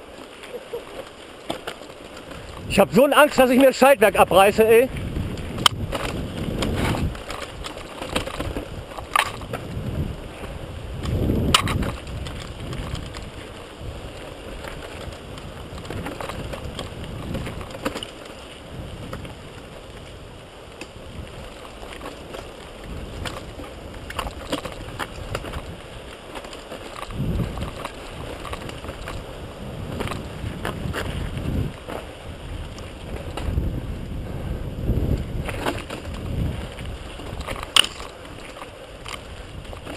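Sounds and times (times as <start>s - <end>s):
bike rattling: 0.0s - 39.9s
wind rushing over microphone: 2.3s - 18.0s, 18.6s - 26.2s, 27.0s - 39.9s.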